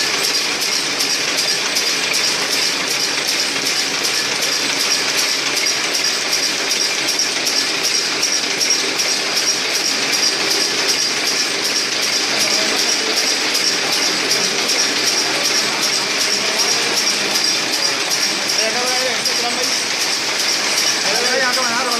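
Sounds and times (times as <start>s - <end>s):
machine clattering rhythmically: 0.0s - 21.9s.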